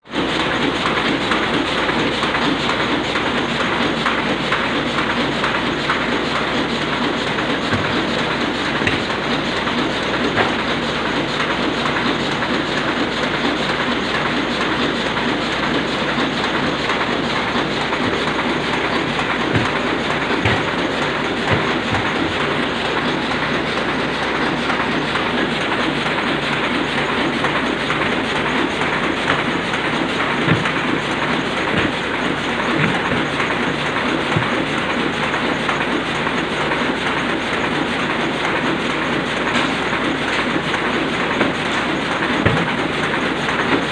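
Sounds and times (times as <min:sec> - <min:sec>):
printing press clattering: 0:00.1 - 0:43.9.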